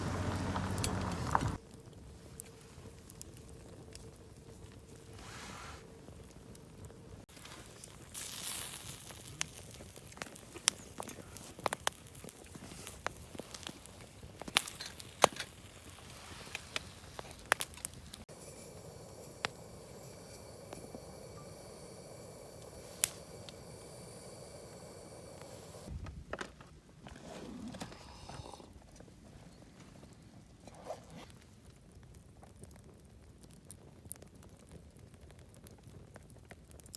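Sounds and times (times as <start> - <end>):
campfire crackling and popping: 0.0 - 25.9, 31.3 - 36.9
low fire hiss: 0.0 - 36.9.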